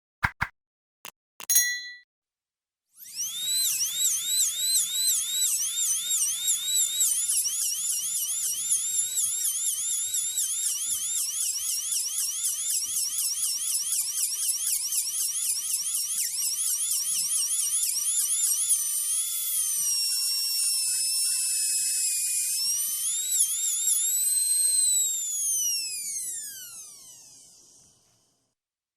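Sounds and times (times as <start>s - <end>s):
dental drill whining: 3.0s - 28.4s.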